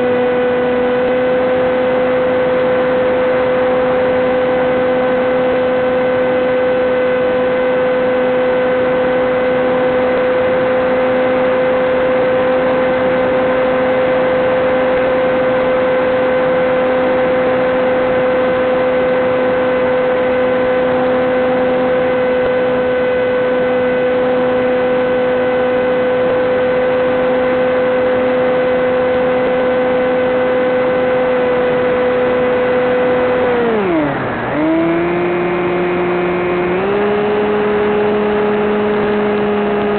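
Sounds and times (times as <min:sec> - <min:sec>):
electric motor and propeller drone: 0:00.0 - 0:39.9.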